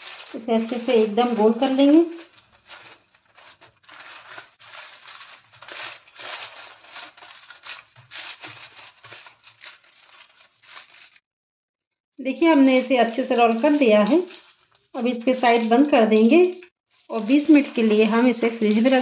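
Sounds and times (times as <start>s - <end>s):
aluminium foil crinkling: 0.0s - 11.2s, 12.6s - 19.0s.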